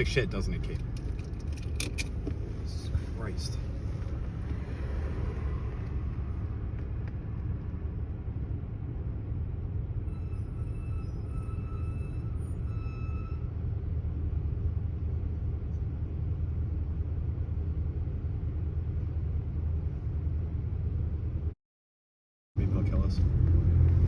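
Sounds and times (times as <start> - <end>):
car engine and tyres rumbling: 0.0 - 21.6, 22.6 - 24.0.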